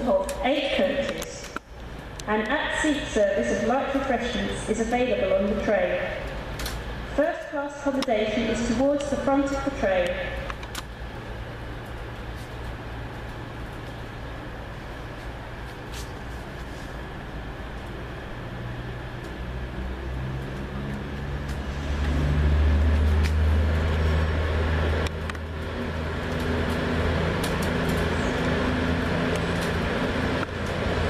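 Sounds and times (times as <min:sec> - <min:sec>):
diesel train engines droning: 0:00.0 - 0:31.0.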